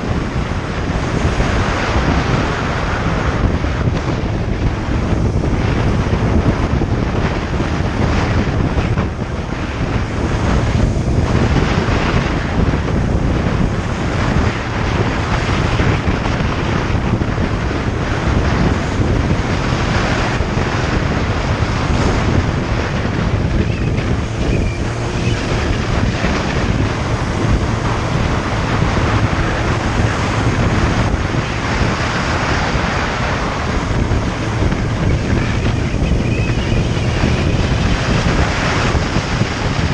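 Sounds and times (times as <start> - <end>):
motorcycle engine: 0.0 - 39.9
road noise: 0.0 - 39.9
wind buffeting microphone: 0.0 - 39.9.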